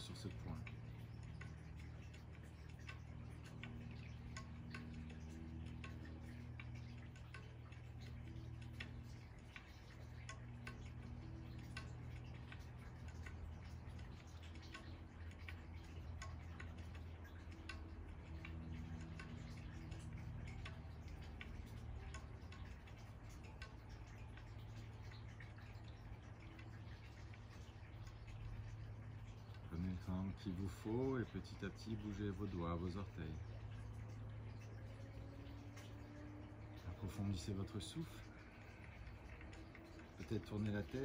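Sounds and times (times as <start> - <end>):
faint low hum: 0.0 - 41.0
light ticks: 0.0 - 41.0.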